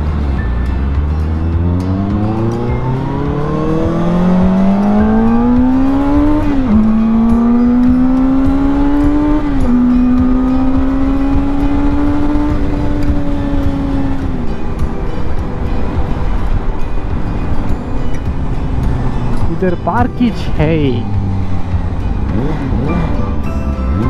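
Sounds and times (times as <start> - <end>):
motorcycle engine accelerating: 0.0 - 24.0
wind and road rush: 0.0 - 24.0.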